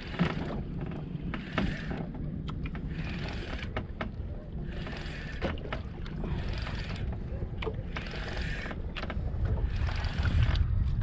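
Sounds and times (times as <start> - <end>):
boat engine rumble: 0.0 - 11.0
water slapping: 0.0 - 11.0
water splashing against hull: 0.0 - 11.0.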